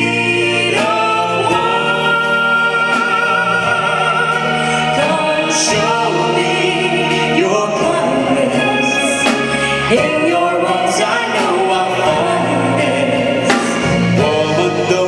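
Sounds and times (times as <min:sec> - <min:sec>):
live band playing: 0:00.0 - 0:15.0
singers holding long notes: 0:00.0 - 0:15.0.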